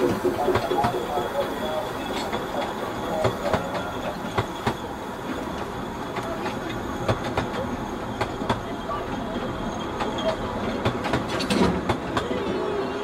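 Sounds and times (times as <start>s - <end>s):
train wheels clicking over rail joints: 0.0s - 12.3s
steady train rumble: 0.0s - 13.0s.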